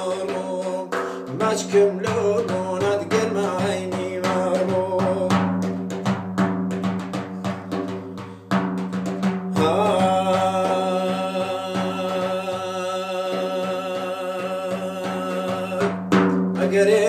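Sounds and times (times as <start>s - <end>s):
frame drum beating: 0.0s - 17.0s.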